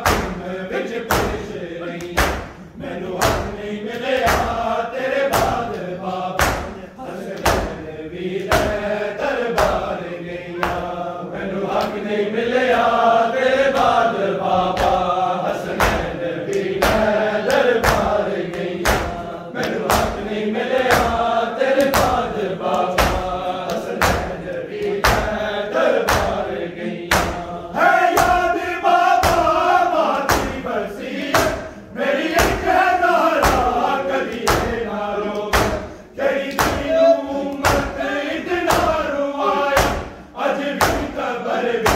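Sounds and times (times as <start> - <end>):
chest-beating in unison: 0.0 - 41.9
men chanting a lament: 0.0 - 41.9.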